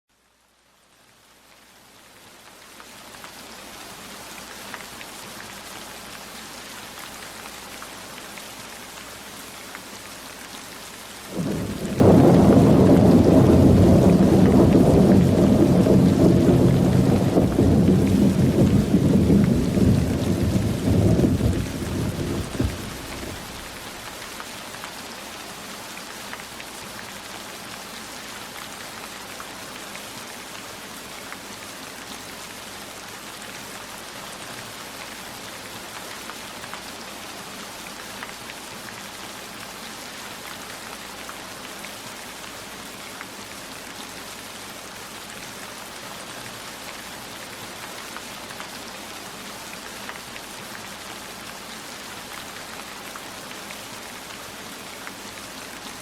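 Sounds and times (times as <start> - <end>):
heavy rain falling: 2.3 - 56.0.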